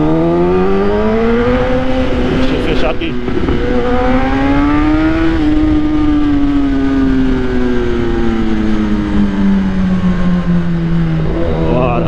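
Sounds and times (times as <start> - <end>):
motorcycle engine slowing: 0.0 - 12.0
wind rumble on microphone: 0.0 - 12.0.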